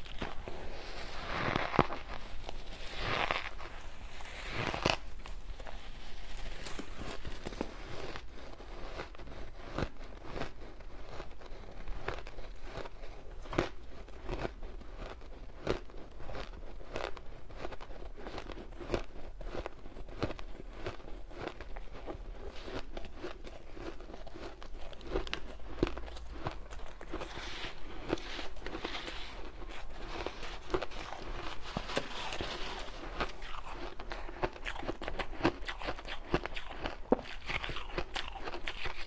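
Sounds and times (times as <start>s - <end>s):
ice crunching being chewed: 0.0s - 39.0s.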